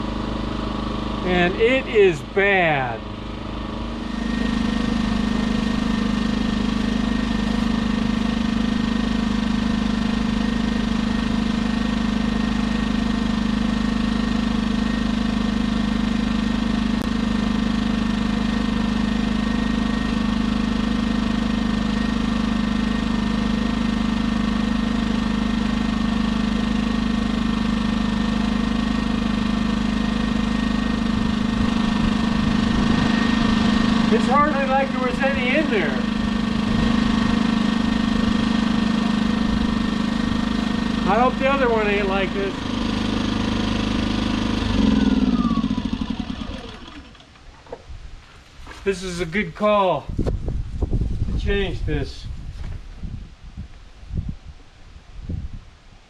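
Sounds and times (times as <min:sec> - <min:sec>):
small engine running: 0:00.0 - 0:50.4.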